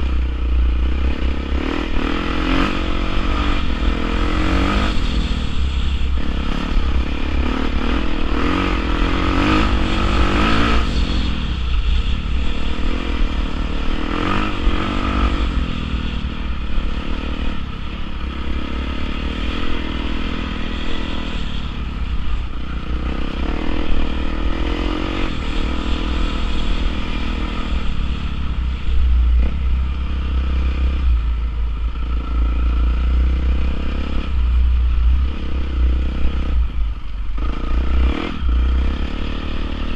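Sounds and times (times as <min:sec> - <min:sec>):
dirt bike engine revving: 0:00.0 - 0:36.6.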